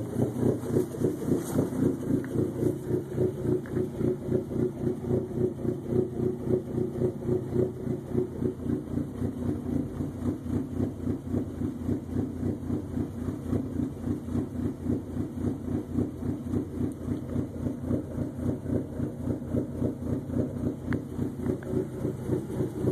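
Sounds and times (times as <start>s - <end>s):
car engine lumpy idle: 0.0s - 22.9s.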